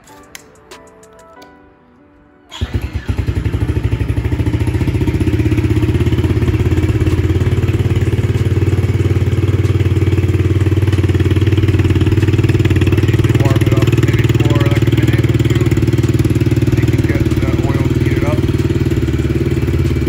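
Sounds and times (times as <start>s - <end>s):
motorcycle engine starting and idling: 2.5s - 20.0s.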